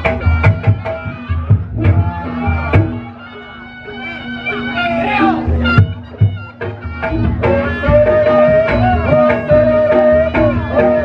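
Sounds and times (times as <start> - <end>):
drum strokes: 0.0 - 3.2, 5.0 - 11.0
sustained wind instrument tones: 0.0 - 11.0.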